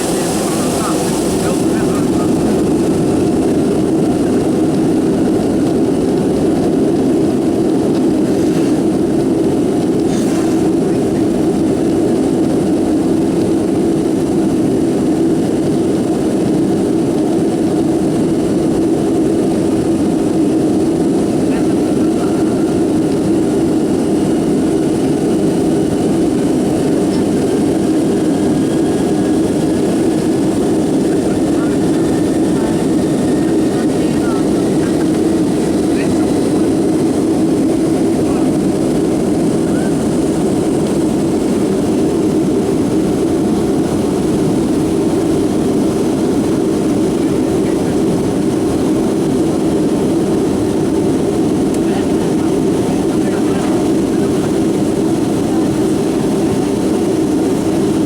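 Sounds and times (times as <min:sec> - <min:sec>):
jet cabin drone: 0:00.0 - 0:58.0.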